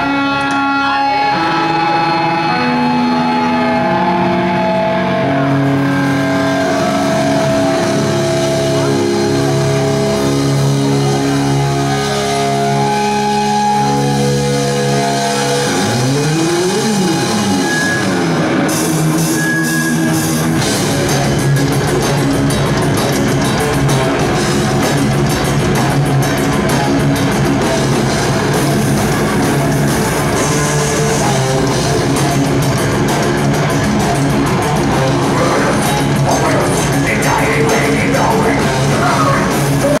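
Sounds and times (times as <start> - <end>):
distorted guitar notes: 0.0 - 40.0
heavy metal band playing: 0.0 - 40.0
drums and crashing cymbals: 5.6 - 40.0.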